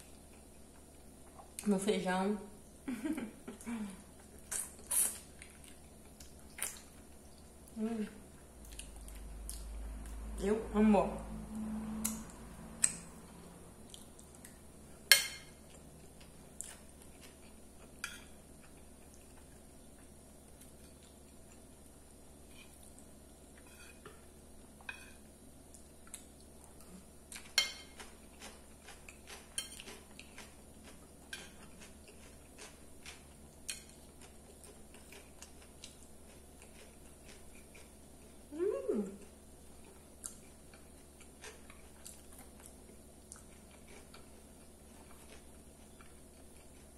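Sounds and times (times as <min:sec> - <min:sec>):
quiet chewing: 0:03.5 - 0:10.2, 0:13.8 - 0:14.7, 0:15.5 - 0:46.9.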